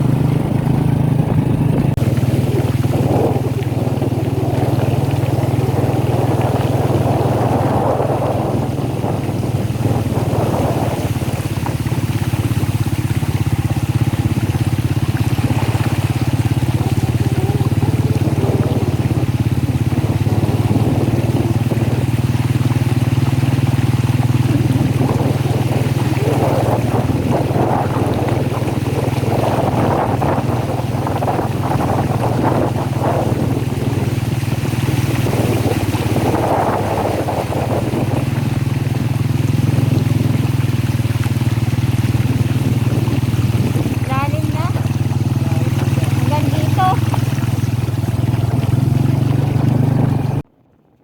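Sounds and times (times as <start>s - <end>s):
vehicle engine droning: 0.0s - 51.0s.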